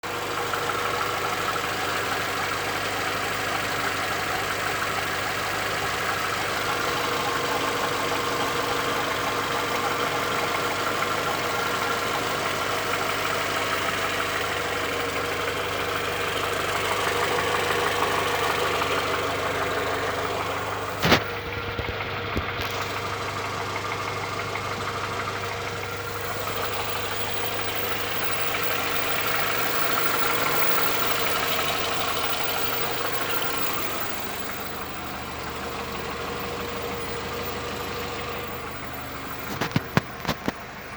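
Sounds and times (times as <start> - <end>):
car engine idling with knocking: 0.0 - 40.9.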